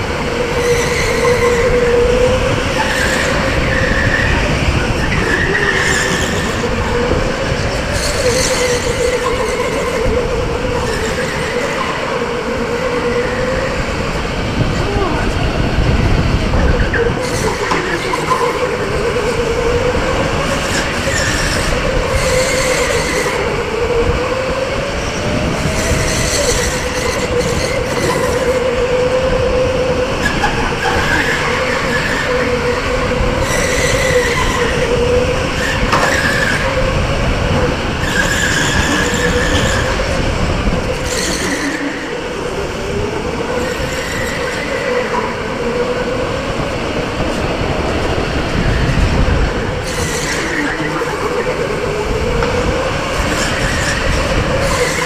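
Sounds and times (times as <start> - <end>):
electric go-kart motor whining: 0.0 - 55.0.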